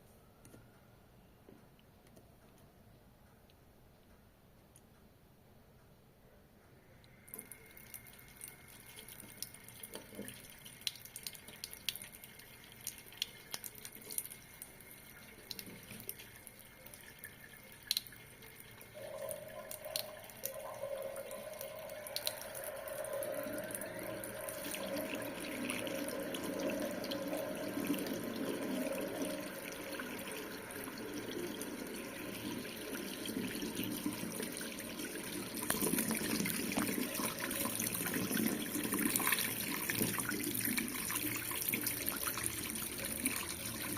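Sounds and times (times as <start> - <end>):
faint steady hum: 0.0 - 43.9
water drips and splashes: 7.3 - 43.9
water running from a tap: 7.3 - 43.9.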